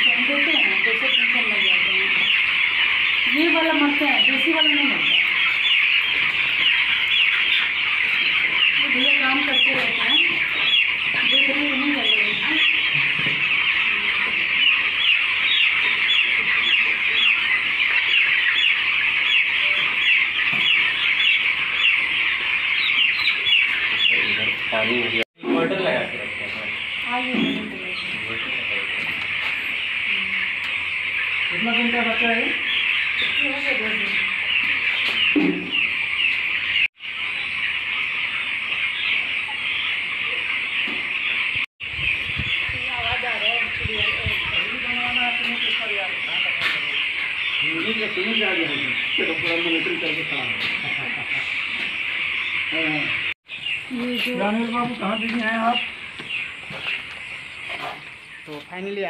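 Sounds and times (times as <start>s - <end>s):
chicks peeping in chorus: 0.0s - 59.0s.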